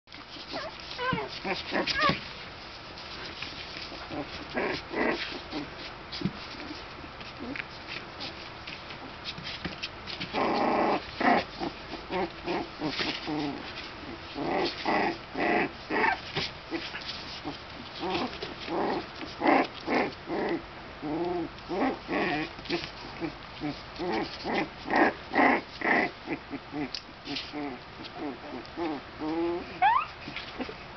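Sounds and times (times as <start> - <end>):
puppies growling and yipping: 0.4 - 2.4, 3.8 - 5.9, 10.2 - 30.9.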